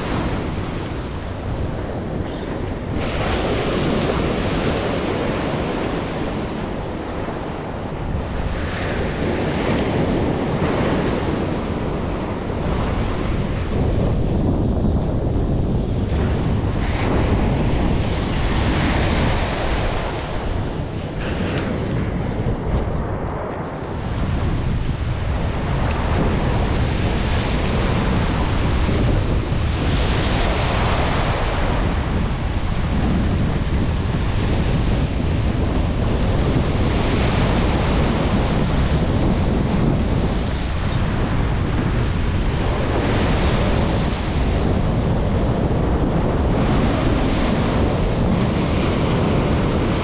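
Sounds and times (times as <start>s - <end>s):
surf breaking on beach: 0.0s - 50.0s
wind buffeting microphone: 0.0s - 50.0s.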